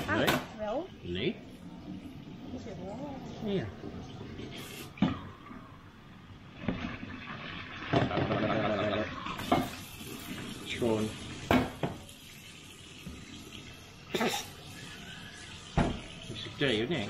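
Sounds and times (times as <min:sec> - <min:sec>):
tap water running: 0:00.0 - 0:17.0.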